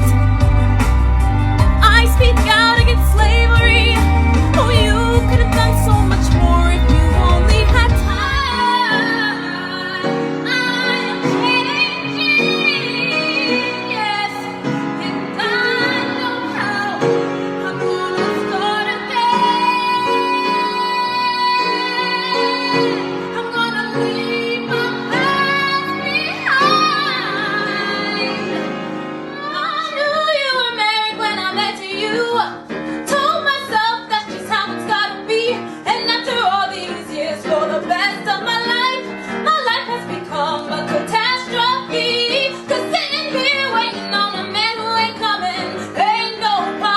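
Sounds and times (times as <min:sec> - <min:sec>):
instrumental accompaniment: 0:00.0 - 0:46.9
woman singing: 0:01.6 - 0:46.9.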